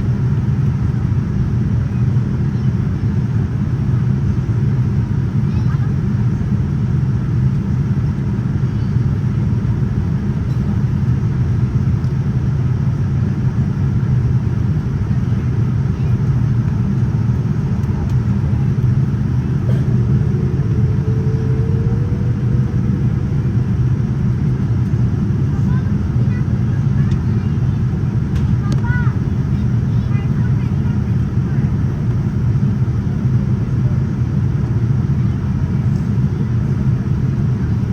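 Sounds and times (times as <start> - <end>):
airliner cabin rumble: 0.0 - 37.9.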